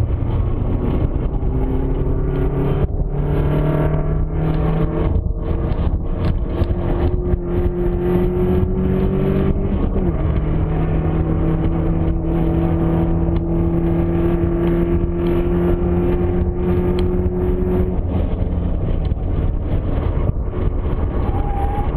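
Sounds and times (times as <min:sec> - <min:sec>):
engine and road noise: 0:00.0 - 0:21.9.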